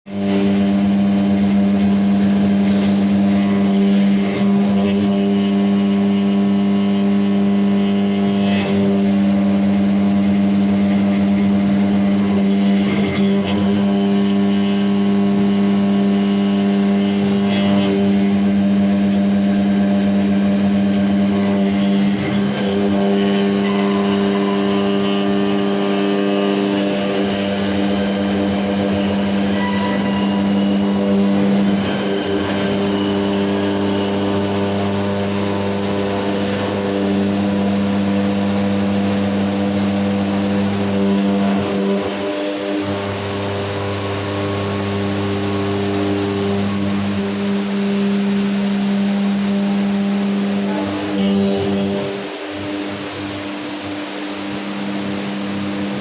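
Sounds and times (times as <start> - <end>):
engraving machine humming: 0.1 - 56.0.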